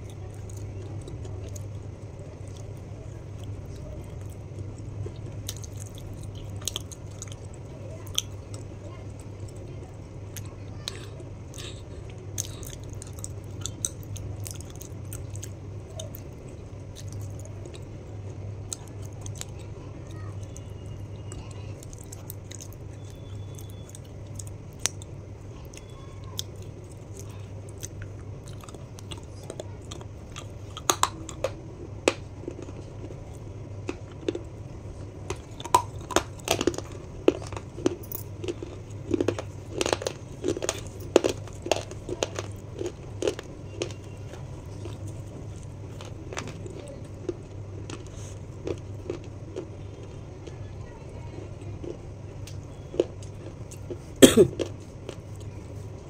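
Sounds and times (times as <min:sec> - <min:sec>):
chewing crunchy snacks: 0:00.0 - 0:56.0
steady low hum: 0:00.0 - 0:56.0.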